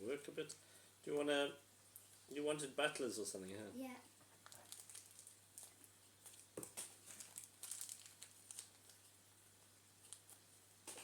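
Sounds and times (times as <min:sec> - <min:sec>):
faint crinkling and rustling: 0:00.4 - 0:11.0.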